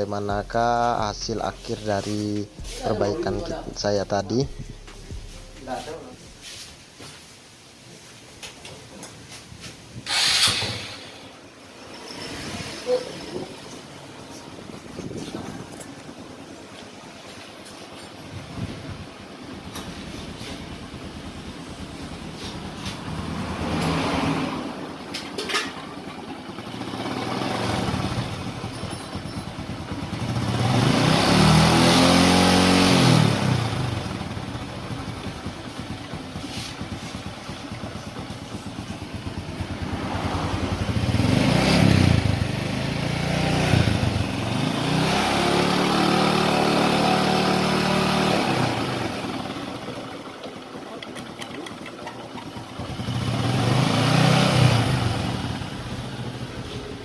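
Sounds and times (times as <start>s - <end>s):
motorcycle engine idling and revving: 0.0s - 6.5s, 9.0s - 57.0s.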